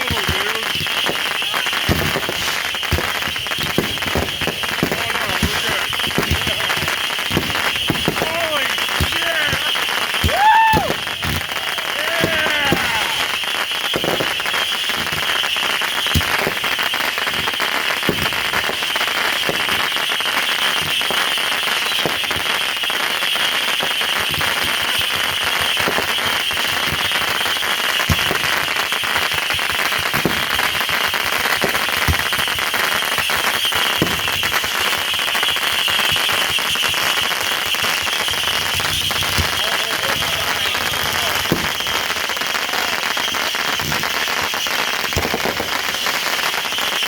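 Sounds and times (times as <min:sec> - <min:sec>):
firework bangs: 0:00.0 - 0:47.0
fireworks crackling: 0:00.0 - 0:47.0.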